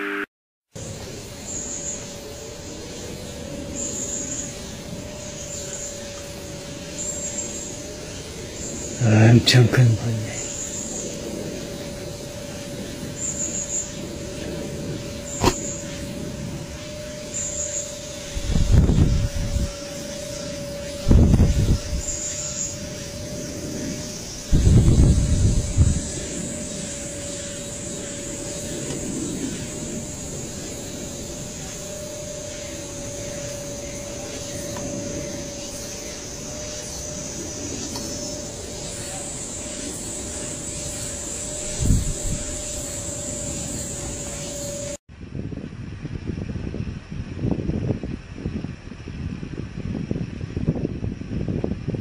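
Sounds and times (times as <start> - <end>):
thin hum: 0.0 - 45.0
steady background noise: 0.8 - 52.0
wind buffeting microphone: 0.9 - 52.0.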